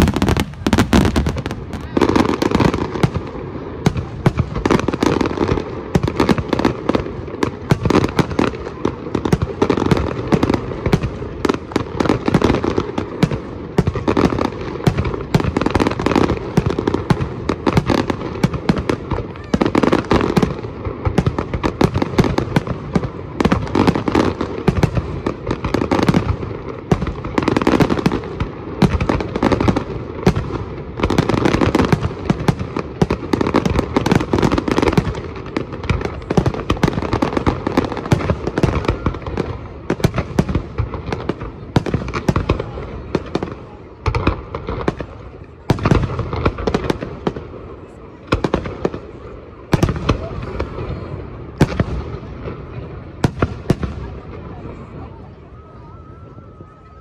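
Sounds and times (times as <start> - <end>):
fireworks banging and crackling: 0.0 - 57.0.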